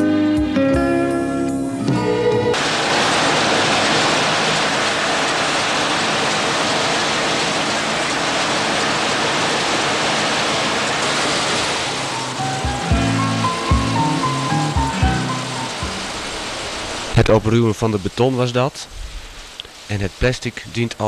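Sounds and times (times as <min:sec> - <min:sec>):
steady rushing hiss: 0:02.6 - 0:21.0.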